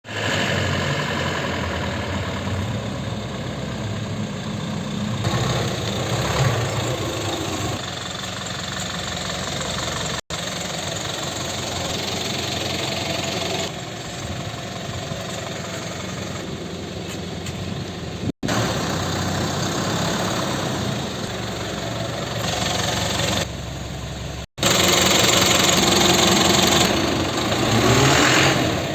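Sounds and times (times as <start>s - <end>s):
truck engine running: 0.1s - 28.9s.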